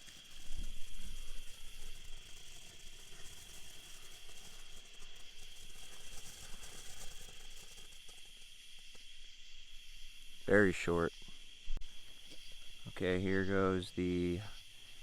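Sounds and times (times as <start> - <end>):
fountain firework hissing and crackling: 0.0 - 11.1, 12.0 - 15.0.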